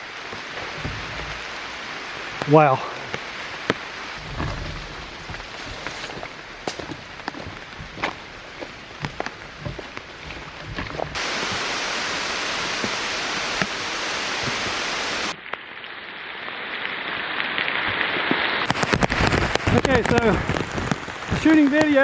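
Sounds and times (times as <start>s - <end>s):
heavy rain hissing: 0.0s - 15.4s, 16.2s - 22.0s
raindrop hits: 0.0s - 15.6s, 18.6s - 22.0s.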